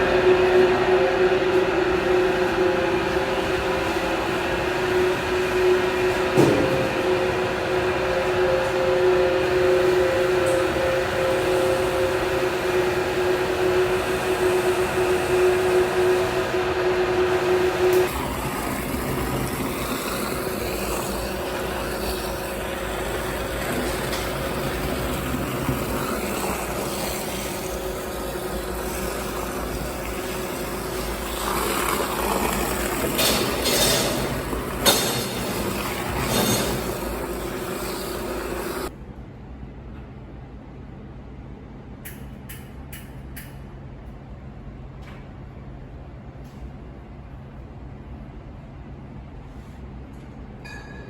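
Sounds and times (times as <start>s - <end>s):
machinery two-tone hum: 0.0s - 51.0s.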